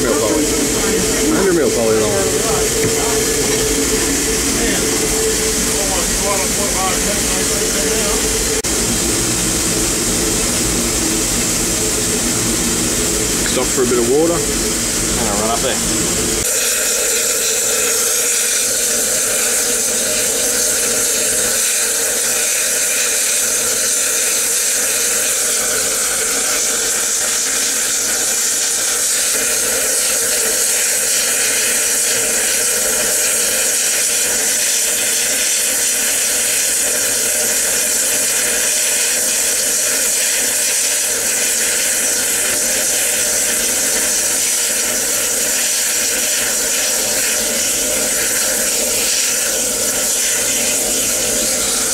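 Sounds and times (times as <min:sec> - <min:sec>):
steam locomotive hissing: 0:00.0 - 0:51.9.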